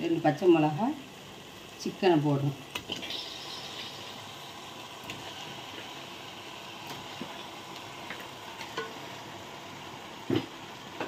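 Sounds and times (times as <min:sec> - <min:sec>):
curry hissing in a pot: 0:00.0 - 0:11.0.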